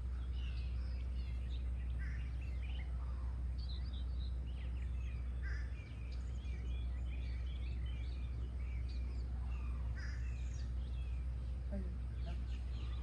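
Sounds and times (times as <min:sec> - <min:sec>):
birds chirping and singing: 0:00.0 - 0:13.0
low background rumble: 0:00.0 - 0:13.0.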